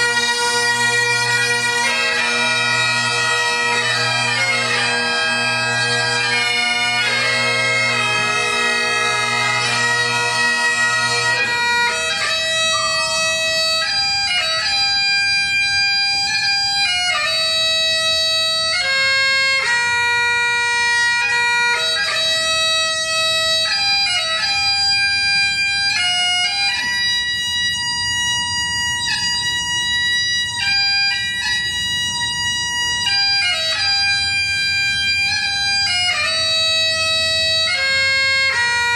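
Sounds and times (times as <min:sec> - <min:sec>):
bagpipes playing slow tune: 0:00.0 - 0:38.9.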